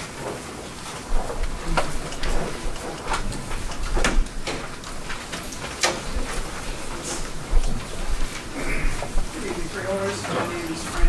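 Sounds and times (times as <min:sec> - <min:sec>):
low room rumble: 0:00.0 - 0:11.0
sharp clicks and knocks: 0:00.2 - 0:10.5.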